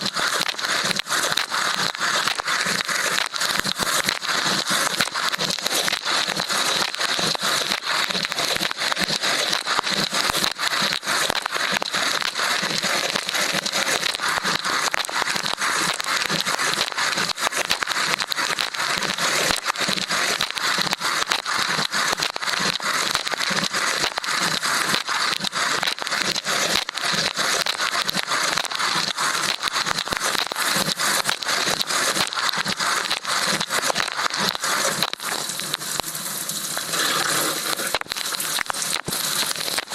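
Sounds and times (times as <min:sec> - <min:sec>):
water spray pelting housing: 0:00.0 - 0:39.9.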